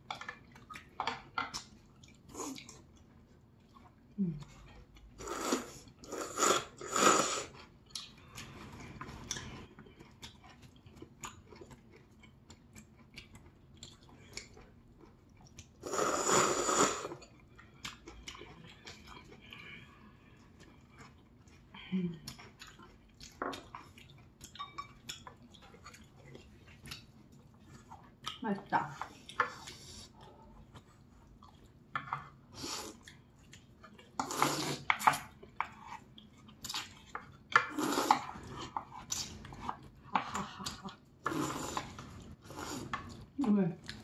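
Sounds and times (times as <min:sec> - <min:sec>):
noodles being chewed: 0:00.0 - 0:44.0.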